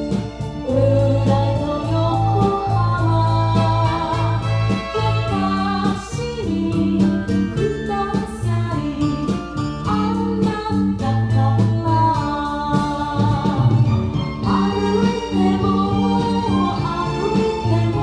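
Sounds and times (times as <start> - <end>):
pop song with singing and guitar: 0.0 - 18.0.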